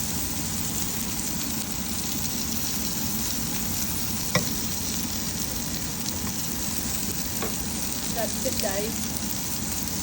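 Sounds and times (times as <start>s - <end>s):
livers sizzling in a pan: 0.0s - 10.0s.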